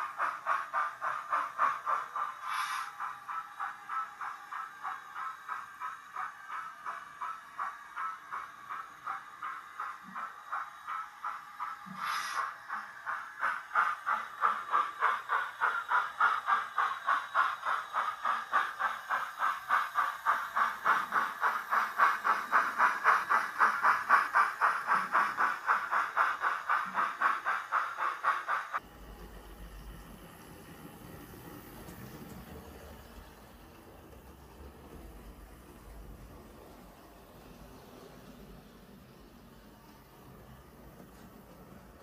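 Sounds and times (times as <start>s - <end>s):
model steam locomotive chuffing: 0.0s - 42.0s.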